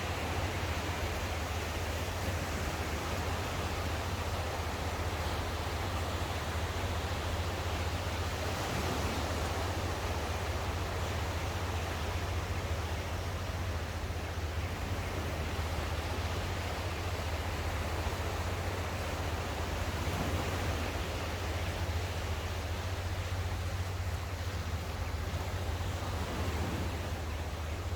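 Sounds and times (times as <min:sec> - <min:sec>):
ocean waves washing on shore: 0:00.0 - 0:27.9.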